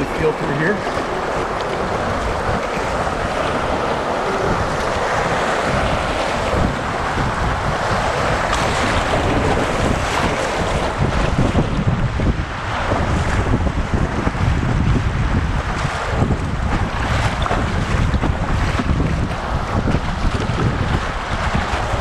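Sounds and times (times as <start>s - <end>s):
whitewater rushing: 0.0s - 22.0s
wind buffeting microphone: 0.0s - 22.0s.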